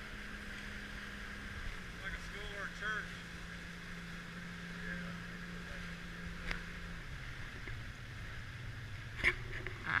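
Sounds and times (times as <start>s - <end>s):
motorboat engine running: 0.0s - 10.0s
water noise: 0.0s - 10.0s
wind: 0.0s - 10.0s.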